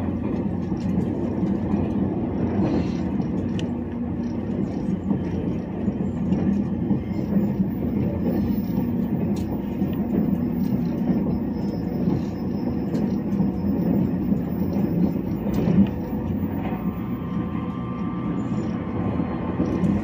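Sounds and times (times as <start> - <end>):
train rumble from inside carriage: 0.0 - 20.0.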